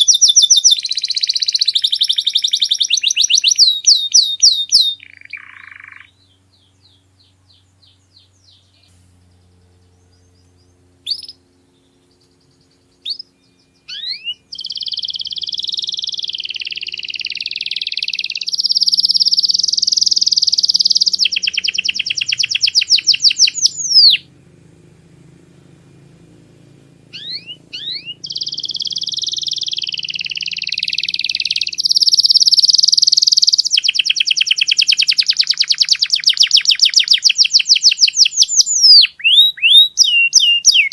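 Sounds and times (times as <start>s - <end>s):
canary singing: 0.0s - 24.5s, 25.1s - 40.9s.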